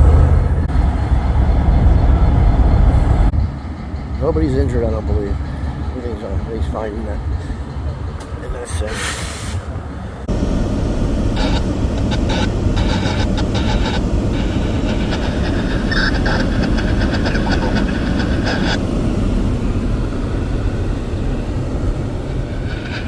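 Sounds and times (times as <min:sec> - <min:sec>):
diesel locomotive idling: 0:00.0 - 0:23.0.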